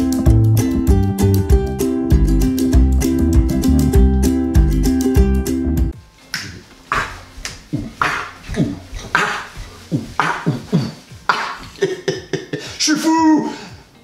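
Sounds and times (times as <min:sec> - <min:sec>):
rhythmic percussive beat: 0:00.0 - 0:12.9.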